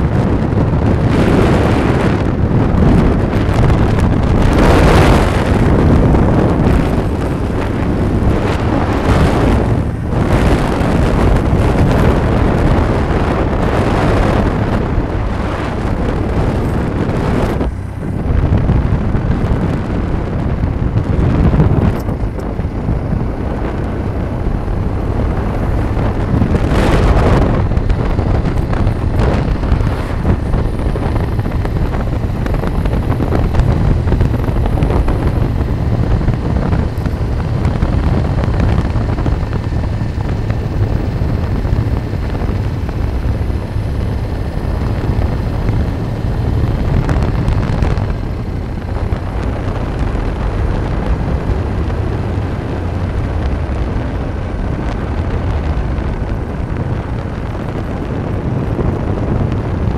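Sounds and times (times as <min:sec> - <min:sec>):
vehicle road and engine noise: 0:00.0 - 0:59.9
wind buffeting microphone: 0:00.0 - 0:59.9.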